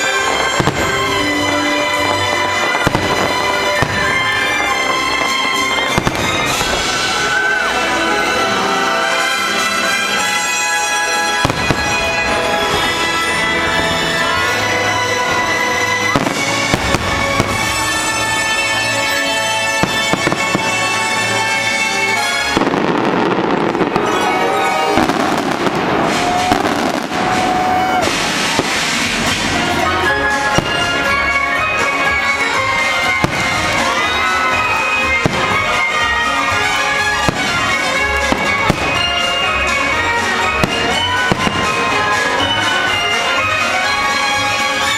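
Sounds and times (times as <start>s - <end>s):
fireworks bursting: 0.0s - 44.9s
show music: 0.0s - 44.9s.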